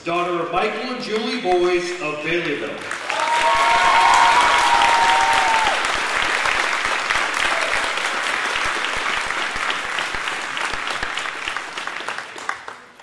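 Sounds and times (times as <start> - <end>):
audience clapping: 0.8 - 13.0.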